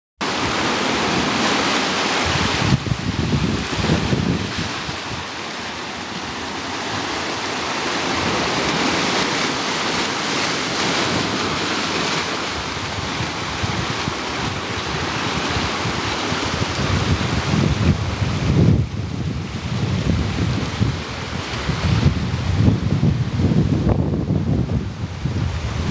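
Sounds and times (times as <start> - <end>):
surf washing over rocks: 0.2 - 25.9
wind buffeting microphone: 0.4 - 25.9.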